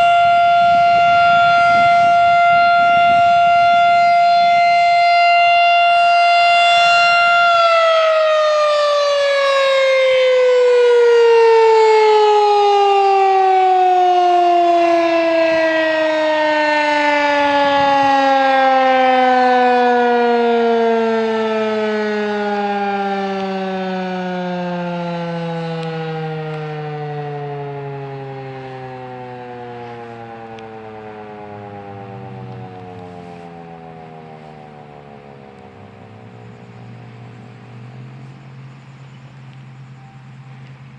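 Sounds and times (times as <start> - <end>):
warning siren winding down: 0.0 - 40.9.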